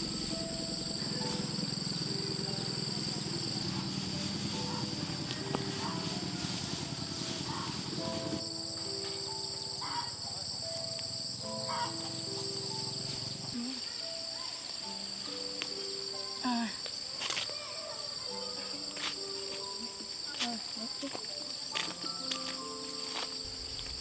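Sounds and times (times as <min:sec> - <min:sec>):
insects droning: 0:00.0 - 0:24.0
soft background music: 0:00.0 - 0:24.0.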